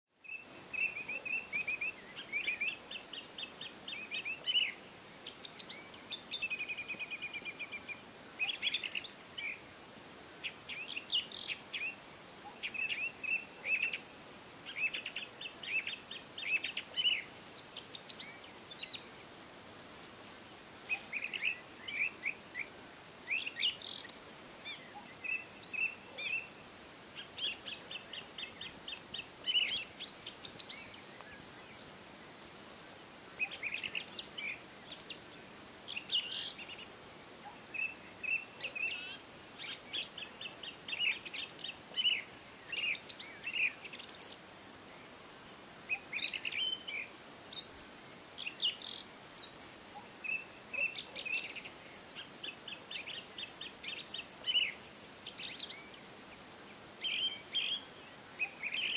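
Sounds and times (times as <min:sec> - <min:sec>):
birds chirping: 0:00.2 - 0:09.8, 0:10.4 - 0:58.9.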